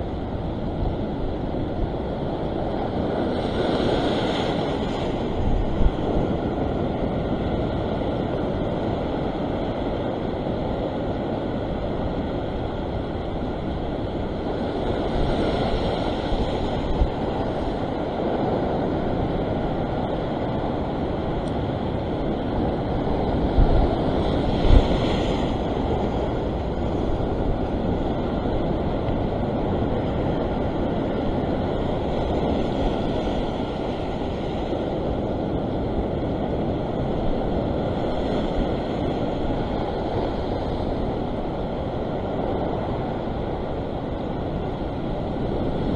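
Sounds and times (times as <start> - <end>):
waves breaking on rocky shore: 0.0 - 45.9
wind rumble on microphone: 0.0 - 45.9.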